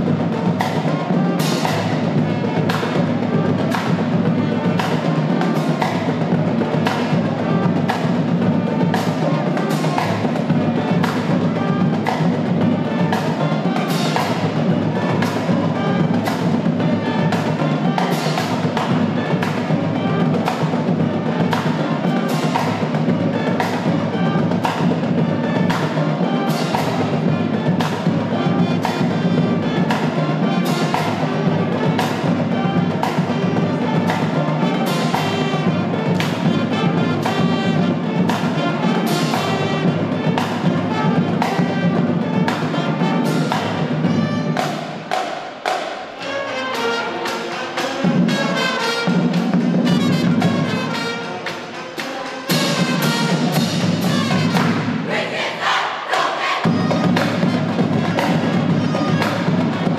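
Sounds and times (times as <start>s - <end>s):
drumline playing: 0.0s - 59.9s.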